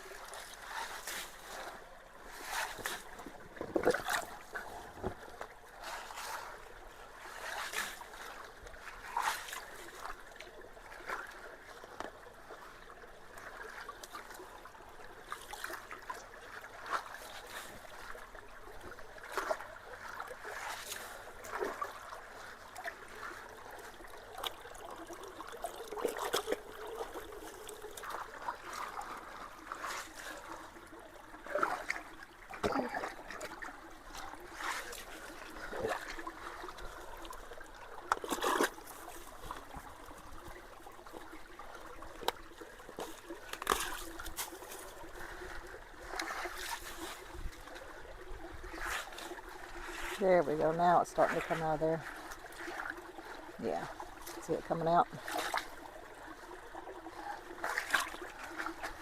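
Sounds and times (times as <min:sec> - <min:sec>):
creek water trickling: 0:00.0 - 0:59.0.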